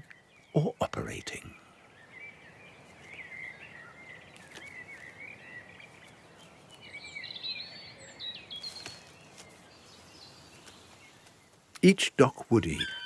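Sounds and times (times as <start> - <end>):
small birds singing: 0.0 - 13.0.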